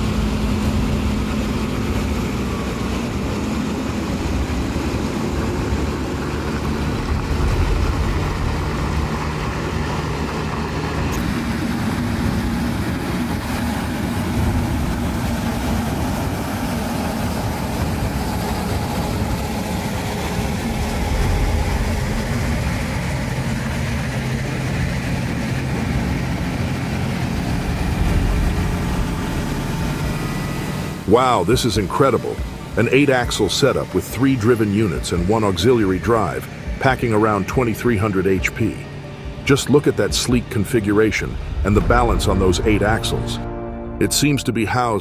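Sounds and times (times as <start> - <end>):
diesel truck engines droning: 0.0 - 45.0.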